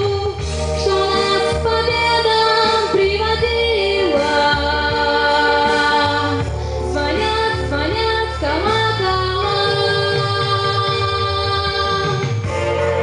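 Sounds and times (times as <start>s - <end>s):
recorded instrumental accompaniment: 0.0s - 13.0s
woman singing into microphone: 0.0s - 13.0s.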